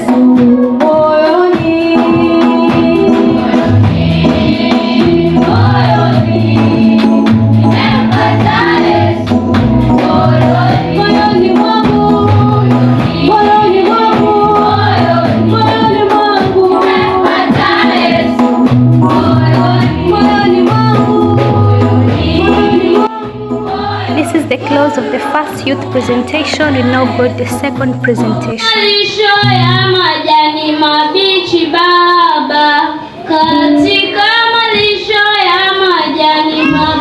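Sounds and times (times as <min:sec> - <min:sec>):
choir singing gospel: 0:00.0 - 0:37.0
instrumental backing with bass: 0:00.1 - 0:30.0.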